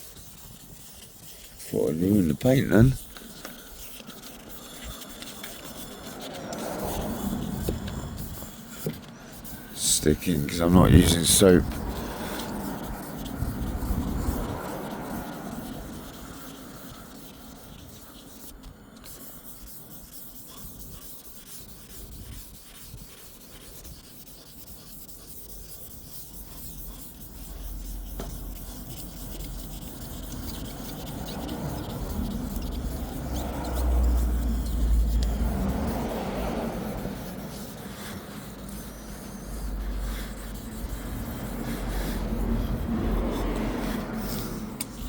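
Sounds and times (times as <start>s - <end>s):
sandpaper rubbing wet paint: 0.0s - 45.0s.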